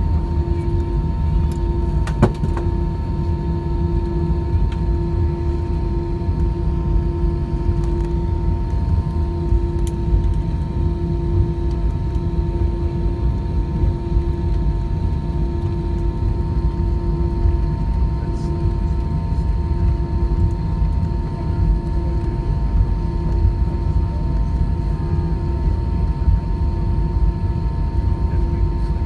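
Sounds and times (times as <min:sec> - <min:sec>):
airplane cabin low rumble: 0:00.0 - 0:29.0
constant hum: 0:00.0 - 0:29.0.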